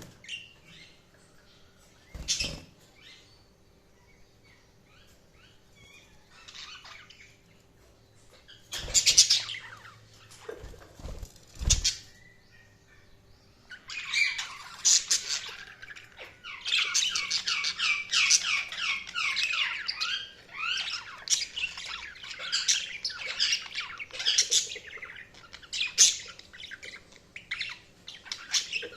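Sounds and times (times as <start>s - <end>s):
faint steady hum: 0.0s - 28.9s
budgerigars chirping: 2.0s - 3.4s, 4.0s - 7.6s, 8.3s - 10.6s, 11.6s - 28.9s.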